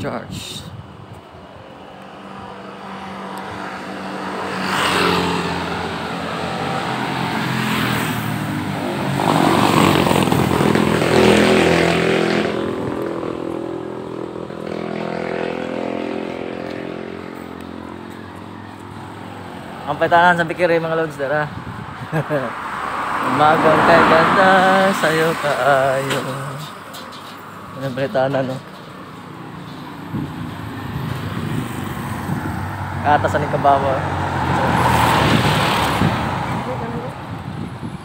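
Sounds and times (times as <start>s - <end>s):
motorcycles passing: 0.9s - 38.0s.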